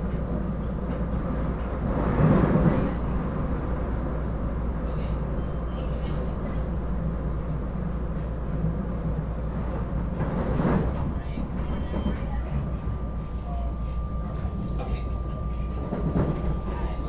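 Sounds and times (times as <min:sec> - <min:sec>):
train interior rumble: 0:00.0 - 0:17.0.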